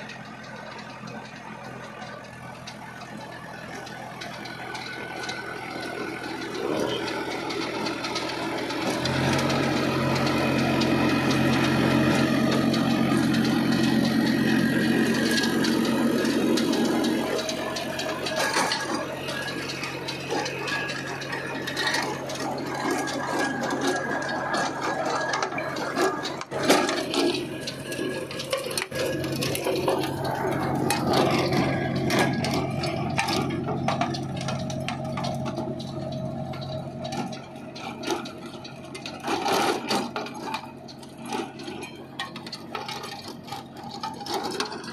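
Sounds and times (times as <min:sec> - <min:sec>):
diesel tractor engine running: 0:00.0 - 0:44.9
rotavator churning soil: 0:00.0 - 0:44.9
tines rattling and scraping: 0:00.0 - 0:44.9.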